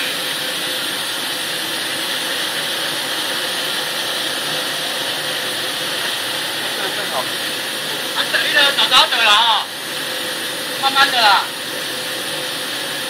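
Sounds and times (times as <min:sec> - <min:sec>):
faint machinery hum: 0:00.0 - 0:13.0
machinery hiss: 0:00.0 - 0:13.0.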